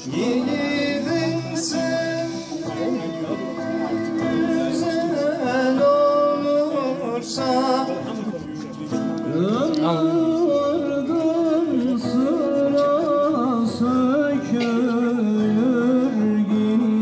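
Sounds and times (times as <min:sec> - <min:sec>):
man singing into a microphone: 0:00.0 - 0:17.0
plucked string accompaniment: 0:00.0 - 0:17.0.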